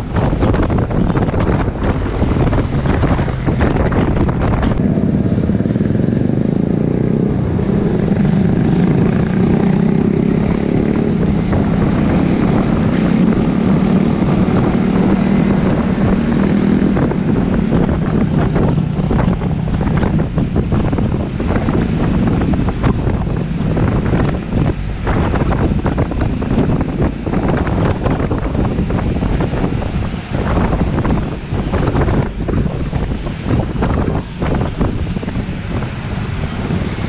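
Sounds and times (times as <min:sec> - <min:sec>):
scooter engine drone: 0:00.0 - 0:37.0
wind on microphone: 0:00.0 - 0:37.0.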